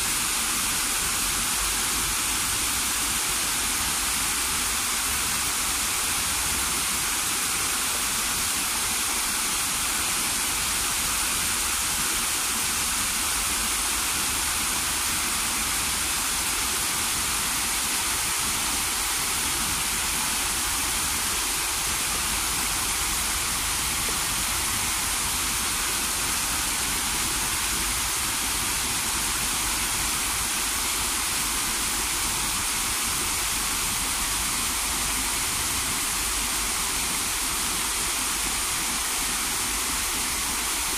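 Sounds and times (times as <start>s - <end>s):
waterfall splashing into pond: 0.0s - 40.9s.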